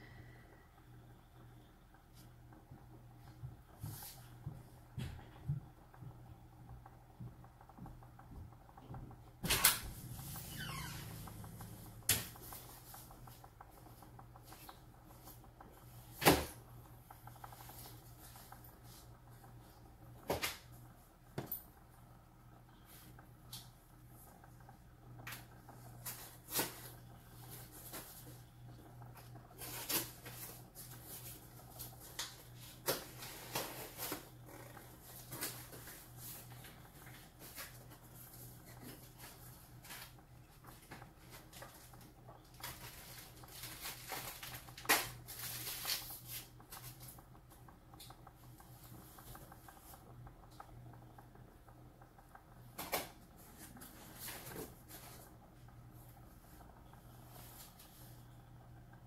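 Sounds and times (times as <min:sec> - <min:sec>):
faint low hum: 0:00.0 - 0:59.0.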